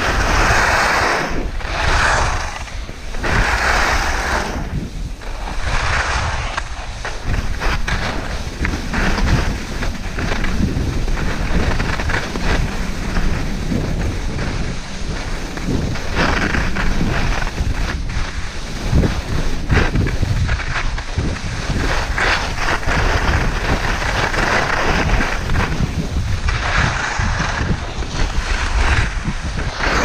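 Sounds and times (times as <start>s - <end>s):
skis scraping on snow: 0.0s - 30.0s
wind buffeting microphone: 0.0s - 30.0s.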